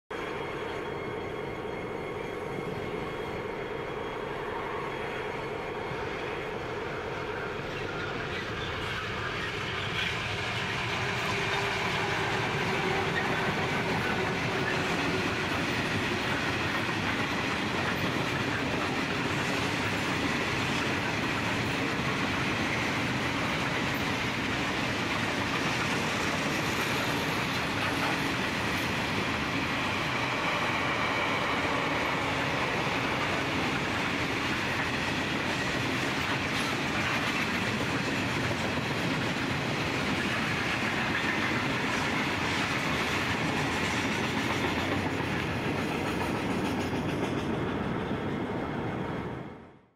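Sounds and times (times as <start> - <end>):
freight train passing: 0.1 - 49.9.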